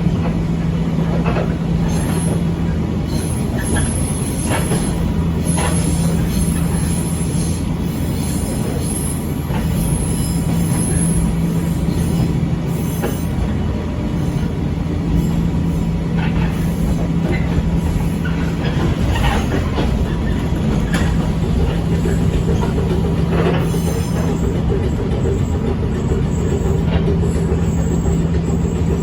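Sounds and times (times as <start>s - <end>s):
railcar rumbling on track: 0.0s - 29.0s
wheels clacking over rail joints: 0.0s - 29.0s.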